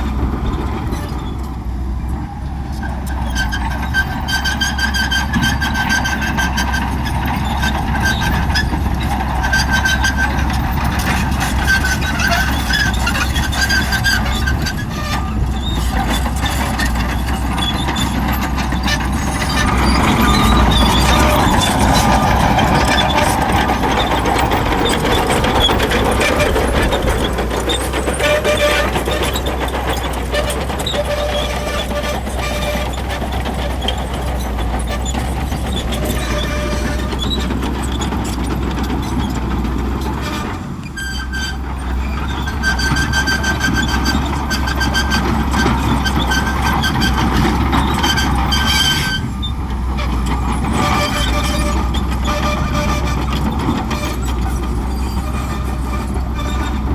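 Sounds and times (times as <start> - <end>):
bulldozer diesel engine under load: 0.0 - 56.9
steel tracks squealing: 0.0 - 56.9.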